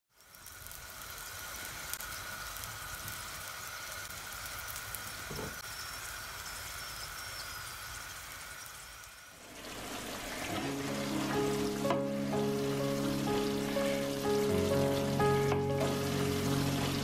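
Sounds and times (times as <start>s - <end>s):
sizzling hiss: 0.1s - 17.0s.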